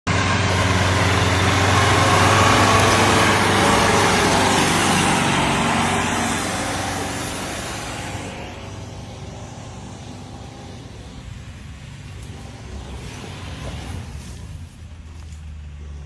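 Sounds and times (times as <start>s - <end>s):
loud engine running: 0.1s - 16.0s.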